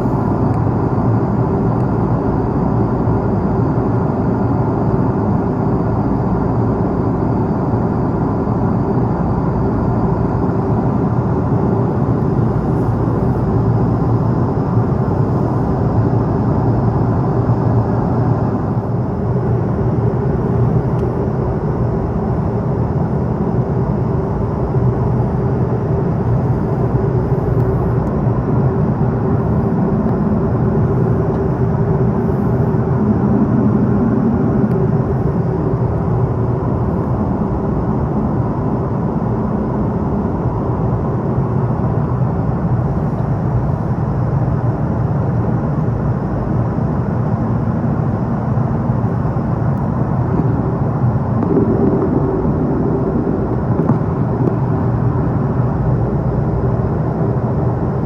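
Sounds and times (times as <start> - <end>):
aircraft cabin engine rush: 0.0 - 58.0.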